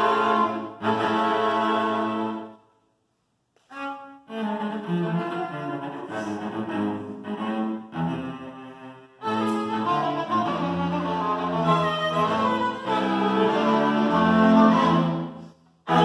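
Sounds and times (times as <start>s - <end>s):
string quartet playing: 0.0s - 2.6s, 3.6s - 16.0s.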